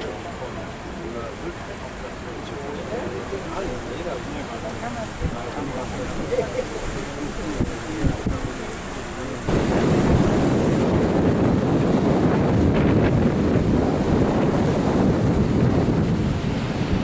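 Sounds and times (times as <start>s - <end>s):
wind buffeting microphone: 2.6s - 17.0s.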